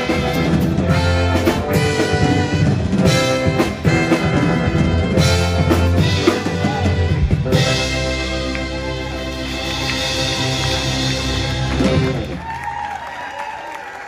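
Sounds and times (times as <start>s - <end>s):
live band playing pop-rock: 0.0s - 12.6s.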